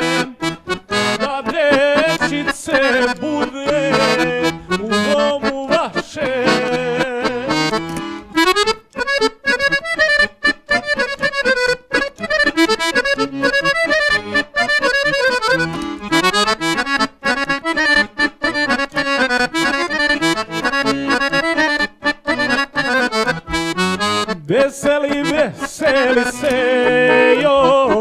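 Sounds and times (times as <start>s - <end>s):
button accordion playing fast: 0.0s - 28.0s.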